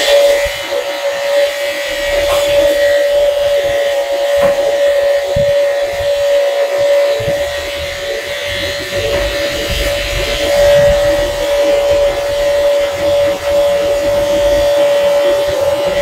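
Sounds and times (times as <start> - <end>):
electric hair clipper humming: 0.0 - 16.0.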